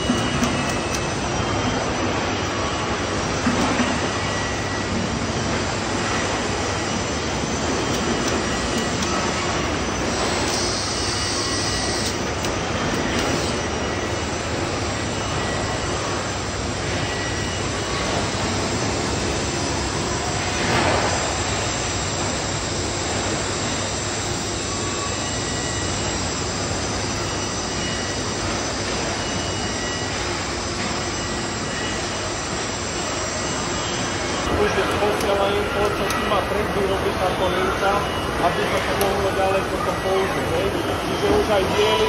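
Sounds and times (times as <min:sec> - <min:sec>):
assembly line machinery noise: 0:00.0 - 0:42.0
faint steady machine whines: 0:00.0 - 0:42.0.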